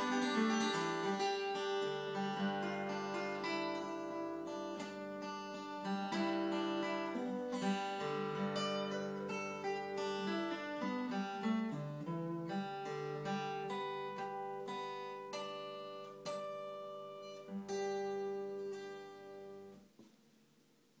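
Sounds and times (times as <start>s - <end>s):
acoustic guitar folk piece: 0.0s - 20.5s.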